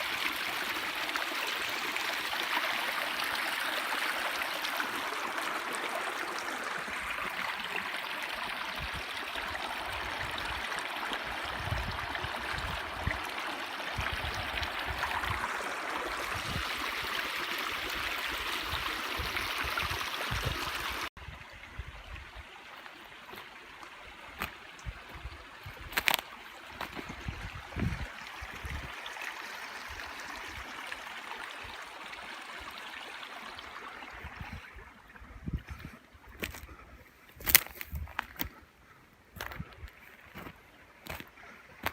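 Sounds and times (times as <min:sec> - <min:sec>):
stream water rushing: 0:00.0 - 0:38.5.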